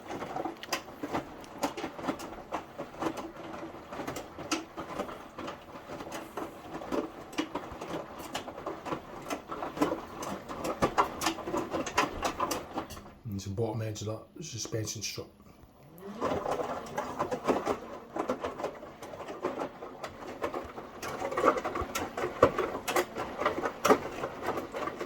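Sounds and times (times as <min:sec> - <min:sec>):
washing machine drum patter and clicks: 0:00.0 - 0:14.8, 0:15.6 - 0:25.0.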